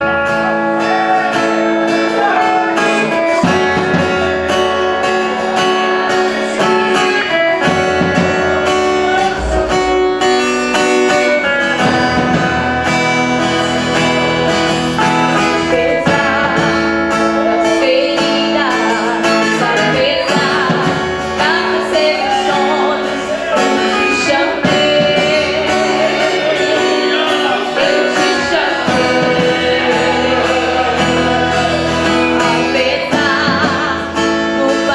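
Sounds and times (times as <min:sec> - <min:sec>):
strummed acoustic guitar: 0:00.0 - 0:34.9
voices singing: 0:00.0 - 0:34.9.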